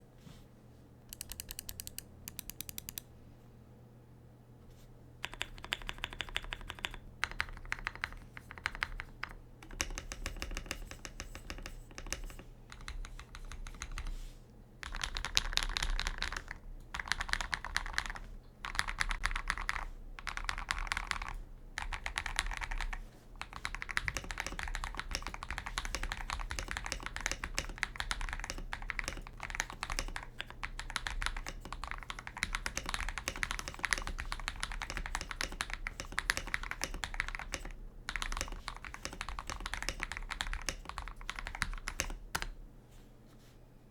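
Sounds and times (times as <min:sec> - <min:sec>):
thocky mechanical keyboard typing: 0:01.1 - 0:03.0, 0:05.2 - 0:14.1, 0:14.8 - 0:42.6.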